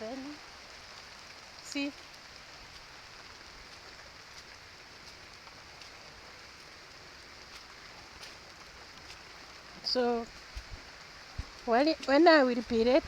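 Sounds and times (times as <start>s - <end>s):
rain hissing: 0.0s - 13.0s
raindrop ticks: 0.0s - 13.0s.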